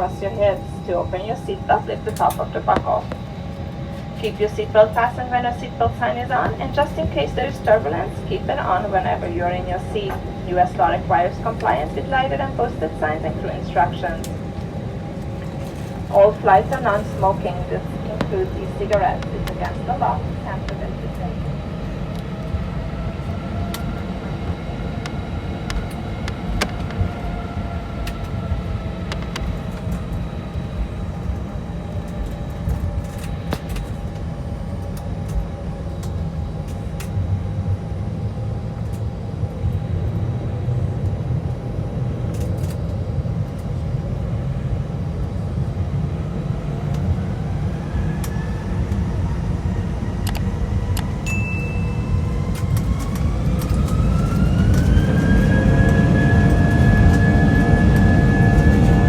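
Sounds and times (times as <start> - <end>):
cabin rumble: 0.0 - 59.0
jet engines humming and whining: 0.0 - 59.0.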